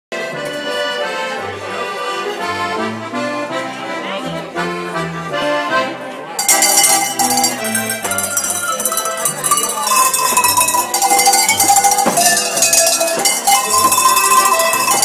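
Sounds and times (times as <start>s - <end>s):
accordion music: 0.1s - 15.0s.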